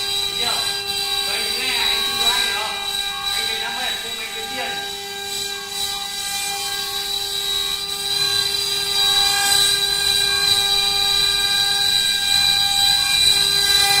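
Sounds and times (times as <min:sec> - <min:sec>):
router spindle whine: 0:00.0 - 0:14.0
wood cutting noise: 0:00.0 - 0:14.0.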